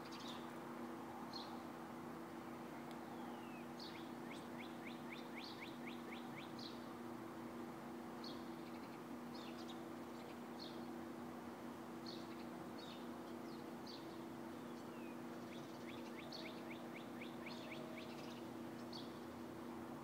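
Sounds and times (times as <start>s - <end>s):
songbirds chirping: 0.0s - 20.0s
steady low hum: 0.0s - 20.0s.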